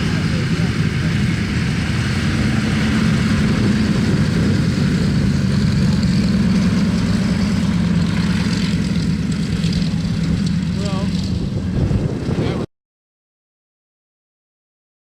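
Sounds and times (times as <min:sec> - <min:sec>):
engine idling: 0:00.0 - 0:12.3.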